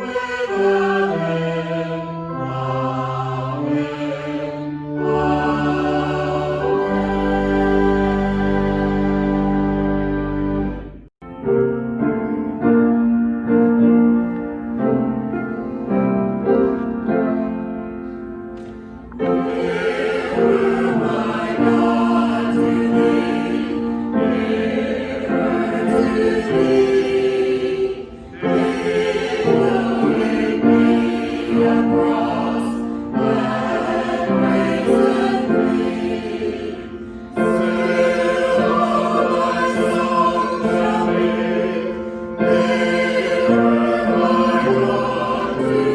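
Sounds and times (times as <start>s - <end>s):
choir singing: 0.0s - 11.1s, 19.1s - 45.9s.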